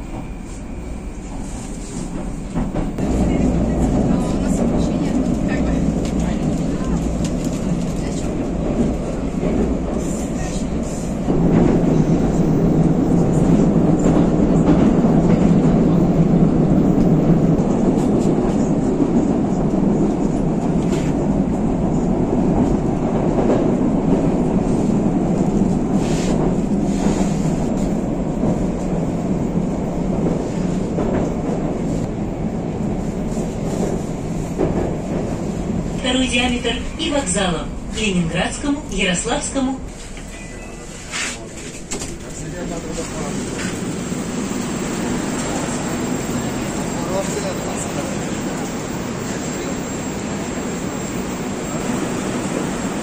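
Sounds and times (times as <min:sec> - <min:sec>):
metro train running in tunnel: 0:00.0 - 0:53.0
rail clicks: 0:01.2 - 0:40.6, 0:41.4 - 0:49.8.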